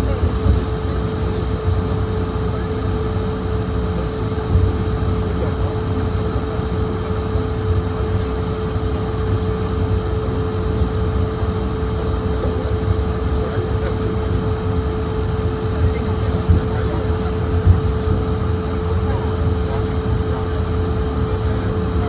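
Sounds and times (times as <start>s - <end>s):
airplane cabin rumble and hum: 0.0s - 22.0s.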